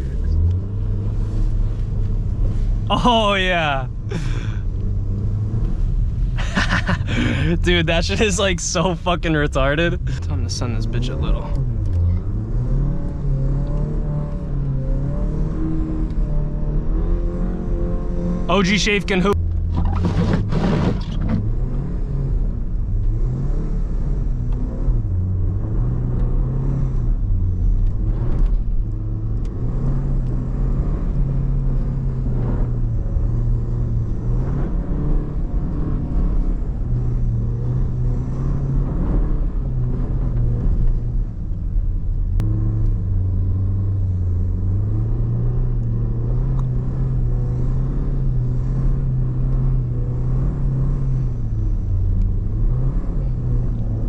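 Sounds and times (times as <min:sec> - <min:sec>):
car engine revving: 0:00.0 - 0:54.0
road and tyre rumble: 0:00.0 - 0:54.0.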